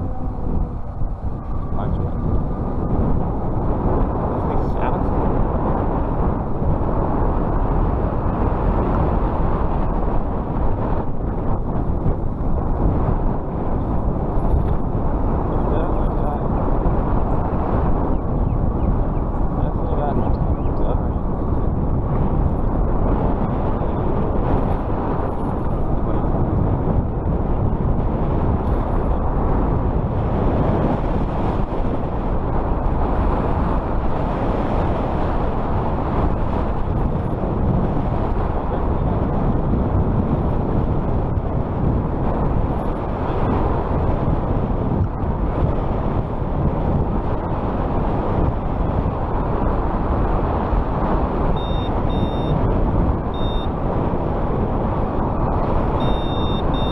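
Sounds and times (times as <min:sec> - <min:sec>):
wind rushing: 0:00.0 - 0:56.9.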